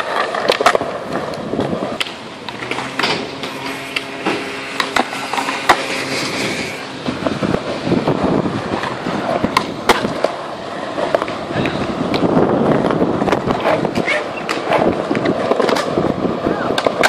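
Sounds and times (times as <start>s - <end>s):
skateboard clacking on ground: 0.0s - 7.8s, 8.6s - 17.0s
skateboard wheels rolling on concrete: 0.0s - 17.0s.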